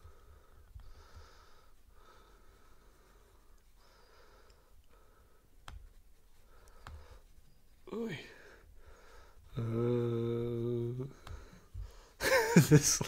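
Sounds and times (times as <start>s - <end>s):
faint breathing: 0.0s - 12.2s.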